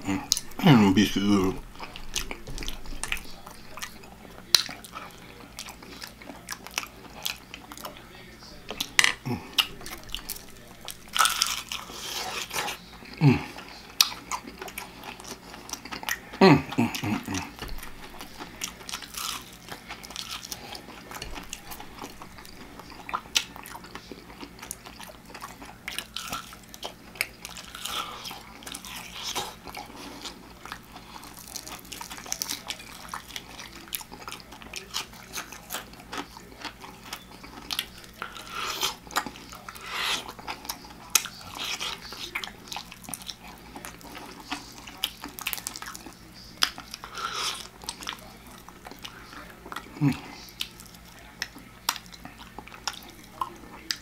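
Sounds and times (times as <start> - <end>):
crunching and chewing fried food: 0.0 - 54.0.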